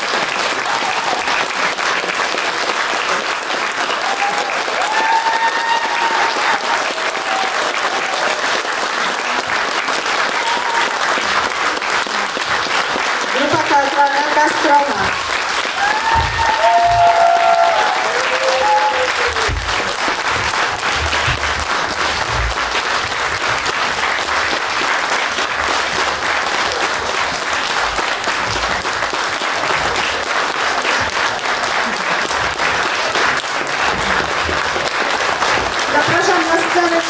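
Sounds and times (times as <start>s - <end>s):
audience applauding: 0.0s - 37.0s.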